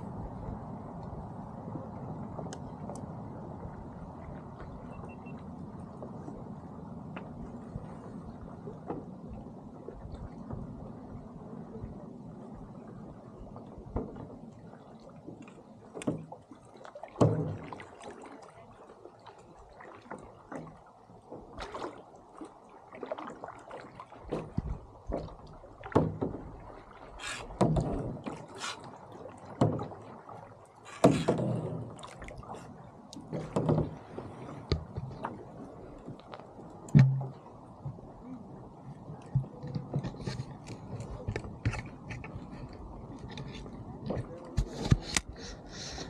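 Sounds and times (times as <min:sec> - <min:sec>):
water splashing against boat: 0:00.0 - 0:46.0.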